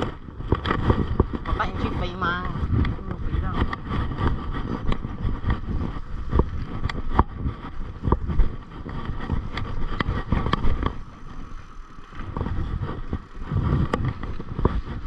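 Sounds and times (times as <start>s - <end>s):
bike clacking over bumps: 0.0s - 15.0s
wind on microphone: 0.0s - 15.0s.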